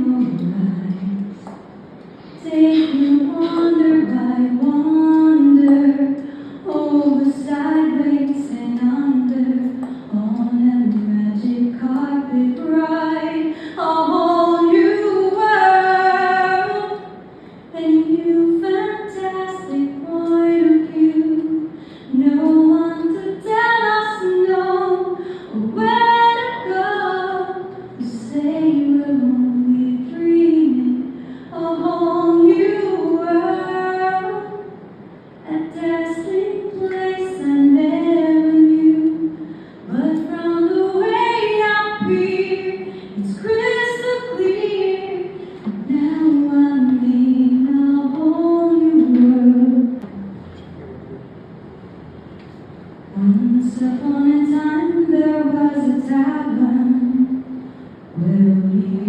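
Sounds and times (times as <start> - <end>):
woman singing unaccompanied: 0.0 - 1.5, 2.4 - 34.8, 35.4 - 50.0, 53.1 - 57.5, 58.2 - 59.0.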